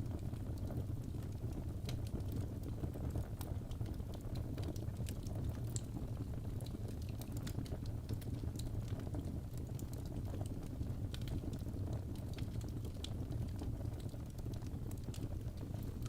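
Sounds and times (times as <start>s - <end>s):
fire rumbling: 0.0s - 16.0s
logs crackling and snapping: 1.8s - 16.0s.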